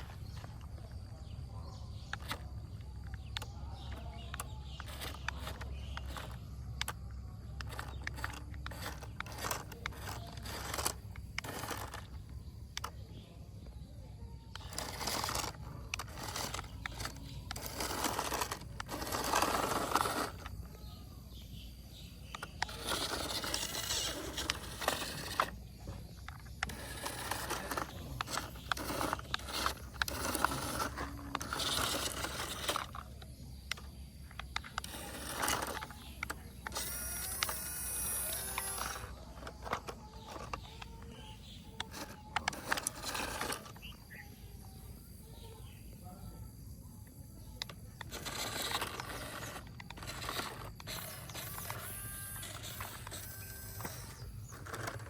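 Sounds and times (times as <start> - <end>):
toy motor whirring: 0.0 - 55.0.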